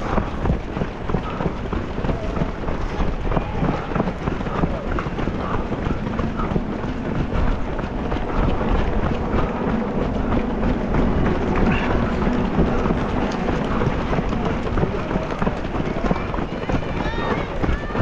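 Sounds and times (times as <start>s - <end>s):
running footsteps on road: 0.0s - 18.0s
wind buffeting microphone: 0.0s - 18.0s.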